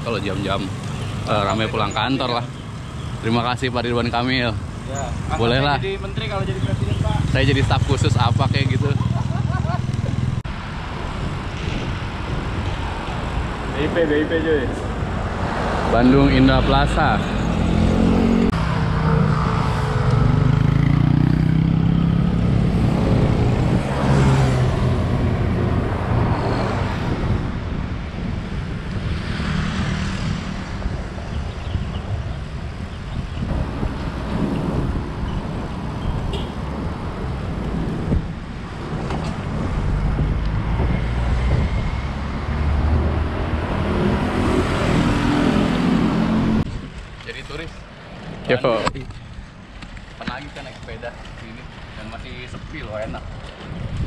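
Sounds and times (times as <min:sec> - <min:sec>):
cars and trucks passing: 0:00.0 - 0:54.0
low traffic rumble: 0:00.0 - 0:54.0.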